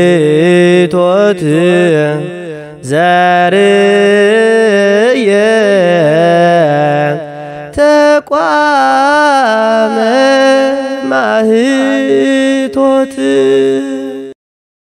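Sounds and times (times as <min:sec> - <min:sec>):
person singing a hymn: 0:00.0 - 0:14.4.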